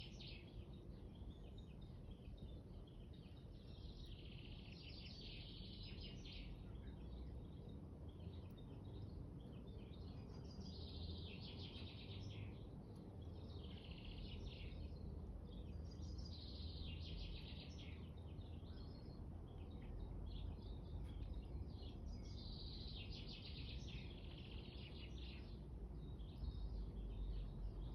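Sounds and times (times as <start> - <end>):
birds chirping and trilling: 0.0 - 27.9.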